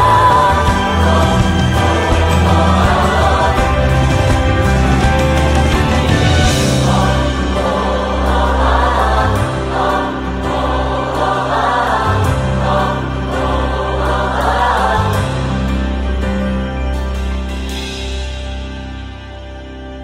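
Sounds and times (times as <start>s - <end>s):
choir singing: 0.0s - 16.6s.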